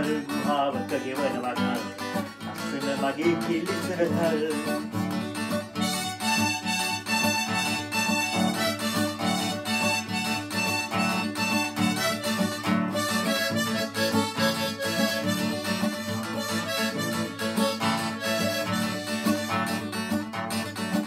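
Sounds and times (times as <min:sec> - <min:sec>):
harmonica melody: 0:00.0 - 0:21.0
strummed acoustic guitar: 0:00.0 - 0:21.0.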